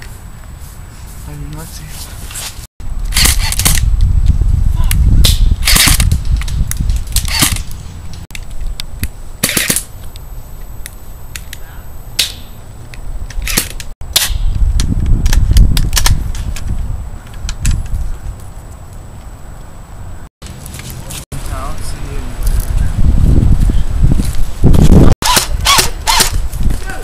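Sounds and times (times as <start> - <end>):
wind rumbling on microphone: 0.0 - 9.4, 11.3 - 27.0.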